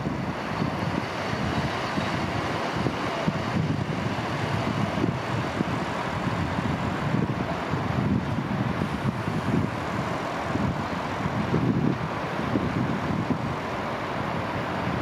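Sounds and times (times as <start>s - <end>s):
electric locomotive running: 0.0s - 15.0s
wind on microphone: 0.0s - 15.0s.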